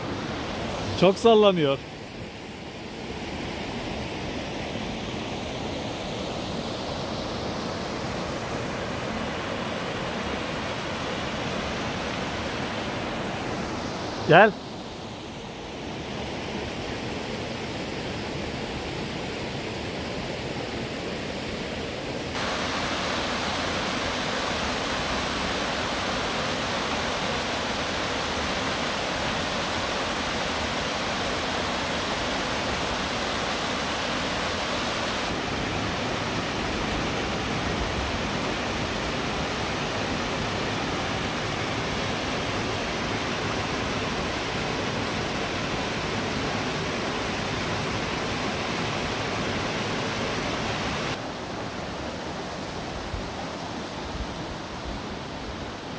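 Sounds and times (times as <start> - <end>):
stream rushing over rocks: 0.0 - 55.9.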